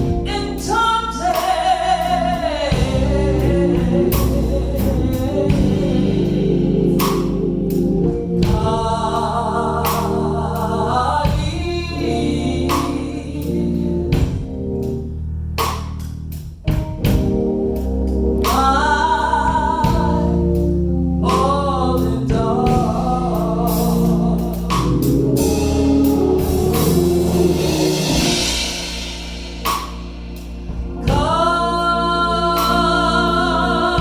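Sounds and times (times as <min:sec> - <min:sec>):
gospel song with choir and band: 0:00.0 - 0:16.0, 0:16.7 - 0:34.0.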